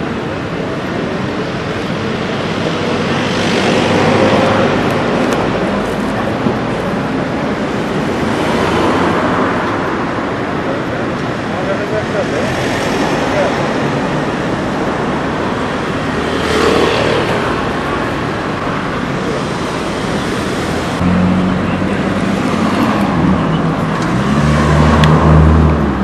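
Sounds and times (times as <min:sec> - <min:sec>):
crowd noise: 0:00.0 - 0:26.0
traffic: 0:00.0 - 0:26.0.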